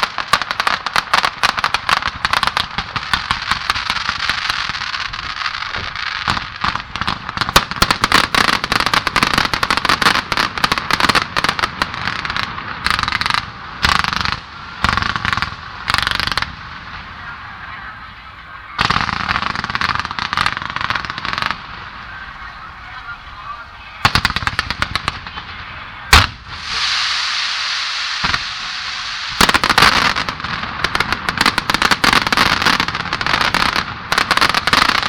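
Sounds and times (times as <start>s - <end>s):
fireworks crackling: 0.0s - 35.0s.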